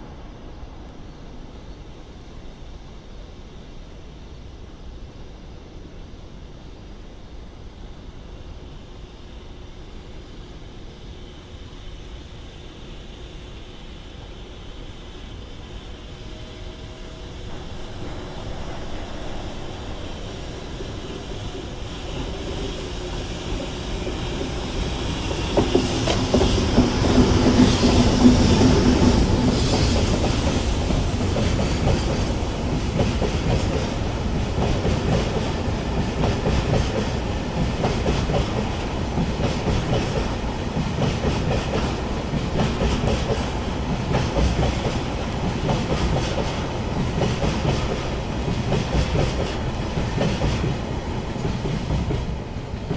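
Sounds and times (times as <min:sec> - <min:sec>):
electric locomotive hum: 0:00.0 - 0:52.9.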